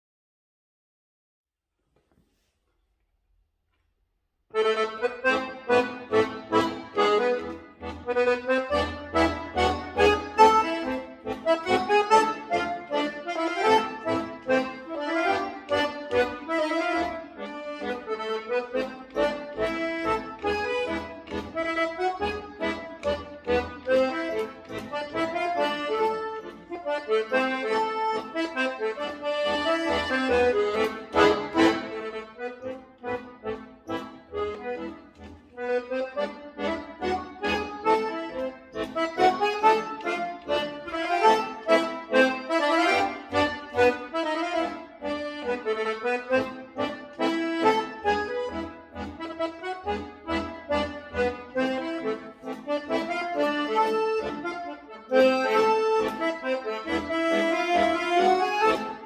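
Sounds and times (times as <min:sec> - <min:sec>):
piano accordion melody: 0:04.5 - 0:59.0.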